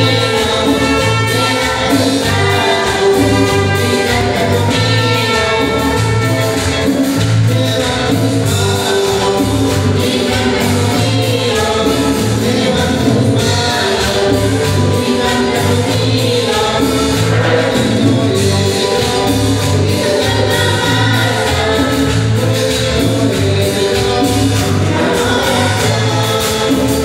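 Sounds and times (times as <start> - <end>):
church band with singers: 0.0 - 27.0.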